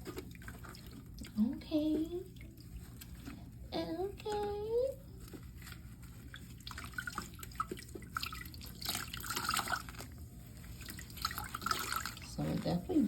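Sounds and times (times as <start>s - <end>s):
water sloshing and dripping: 0.0s - 13.0s.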